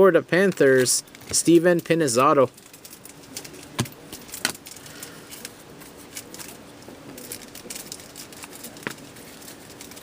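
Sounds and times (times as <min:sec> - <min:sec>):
cards and packaging rustling: 0:00.3 - 0:10.0.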